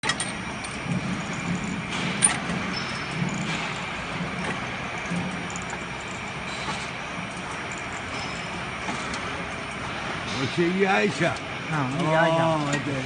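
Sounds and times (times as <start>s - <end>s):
bottling machine hum: 0.0s - 13.0s.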